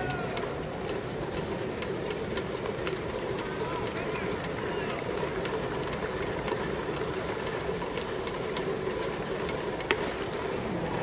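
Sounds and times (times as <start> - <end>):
scattered claps: 0.0 - 11.0.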